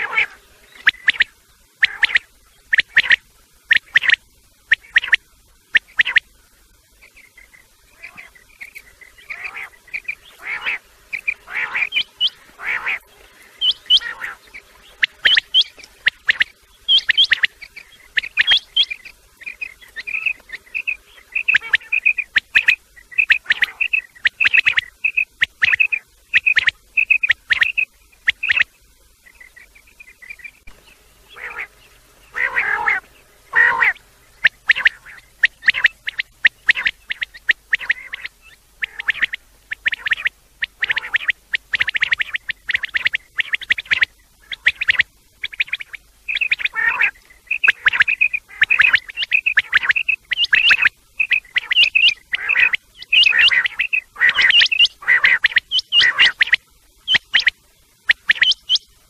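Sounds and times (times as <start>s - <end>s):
quails calling: 0.0s - 6.4s, 7.0s - 59.0s.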